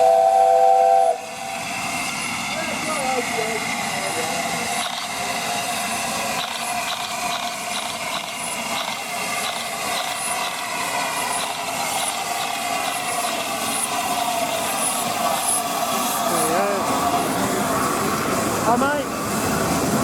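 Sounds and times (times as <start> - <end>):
train coaches rolling: 1.3 - 20.0.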